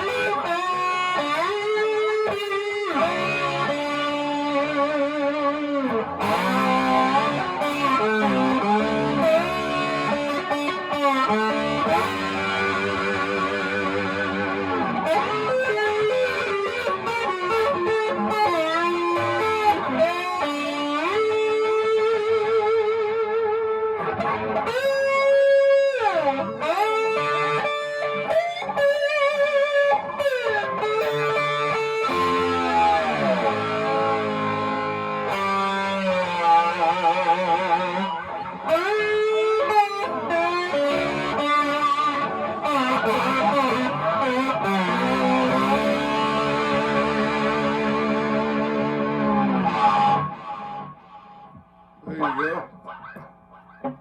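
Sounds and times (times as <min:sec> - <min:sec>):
slide guitar with vibrato: 0:00.0 - 0:54.0.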